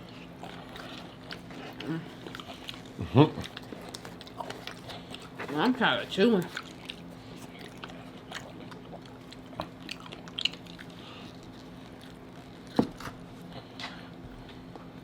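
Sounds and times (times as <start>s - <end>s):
chewing crunchy tacos: 0.0s - 15.0s.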